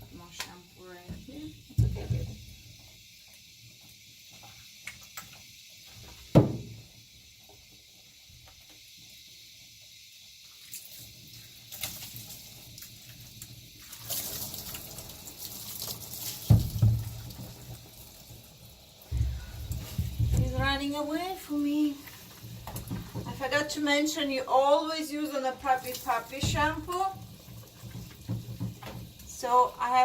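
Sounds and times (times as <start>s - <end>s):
water running and splashing: 0.0s - 30.0s.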